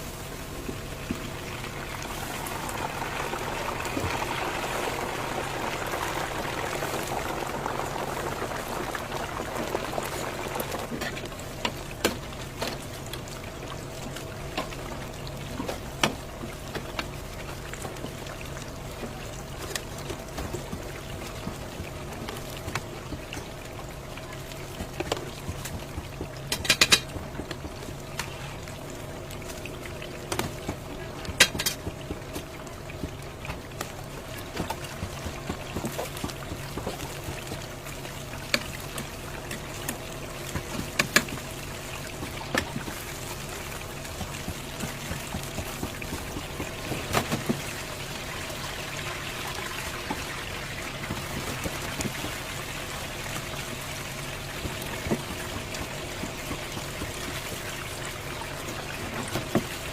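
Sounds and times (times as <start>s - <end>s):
low machine hum: 0.0s - 59.9s
steady liquid sound: 0.0s - 59.9s.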